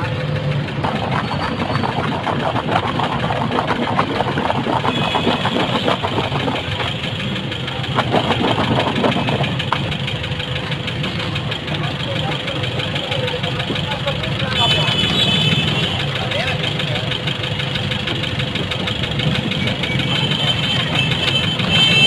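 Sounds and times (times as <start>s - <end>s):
clicks and clatter: 0.0s - 22.0s
engine running: 0.0s - 22.0s.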